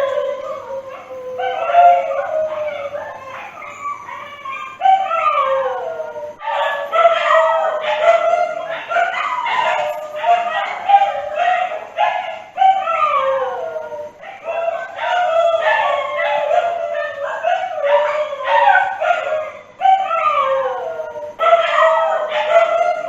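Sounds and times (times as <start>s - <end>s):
dog howling: 0.0s - 23.0s.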